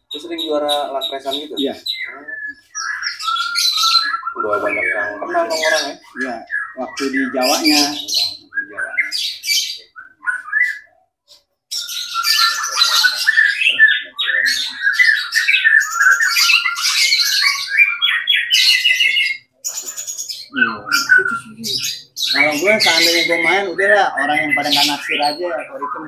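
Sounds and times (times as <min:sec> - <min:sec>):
bird calls: 0:00.0 - 0:26.0
bird song with fast trills: 0:00.0 - 0:26.0.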